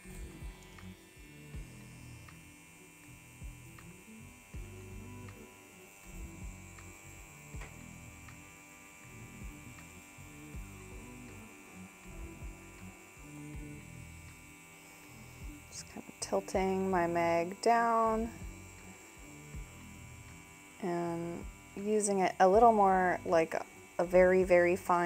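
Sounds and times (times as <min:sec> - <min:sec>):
tattoo pen motor hum: 0:00.0 - 0:25.0.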